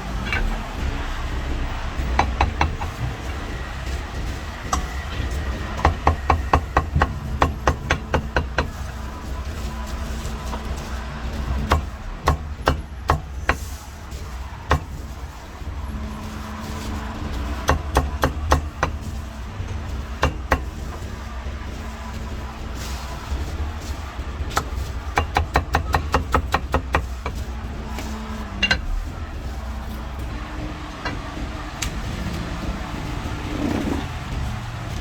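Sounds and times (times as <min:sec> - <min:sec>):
low street hum: 0:00.0 - 0:35.0.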